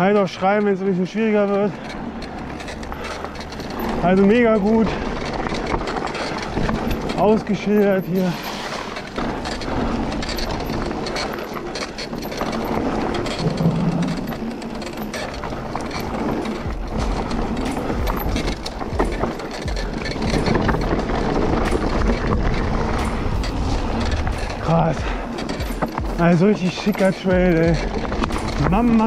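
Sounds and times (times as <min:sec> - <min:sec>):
bike rattling and clicking: 0:00.0 - 0:29.0
bike tyres rolling over dirt: 0:00.0 - 0:29.0
deep rumble: 0:01.7 - 0:29.0.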